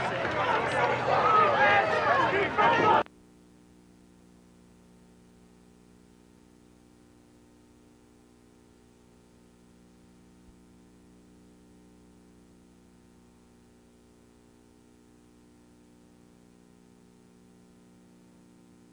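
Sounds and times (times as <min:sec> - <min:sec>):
faint electrical hum: 0:01.0 - 0:18.9.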